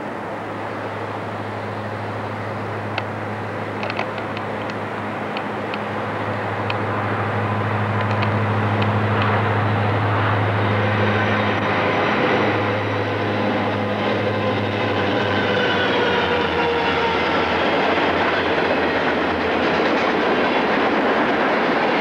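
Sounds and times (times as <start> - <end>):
diesel locomotives passing: 0.0 - 22.0.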